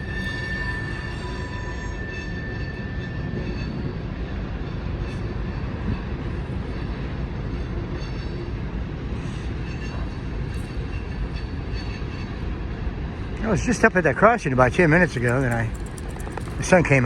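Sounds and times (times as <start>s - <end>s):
freight train low rumble: 0.0s - 17.0s.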